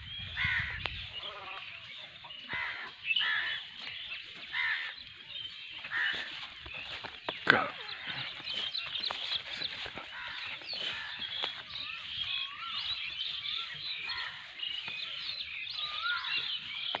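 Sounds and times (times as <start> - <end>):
many birds chirping: 0.0 - 17.0.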